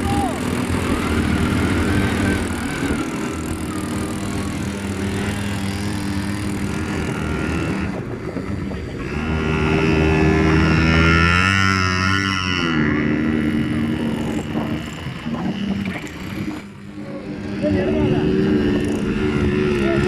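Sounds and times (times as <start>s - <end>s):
motorbike engine running: 0.0s - 20.0s
noisy rush: 0.0s - 20.0s.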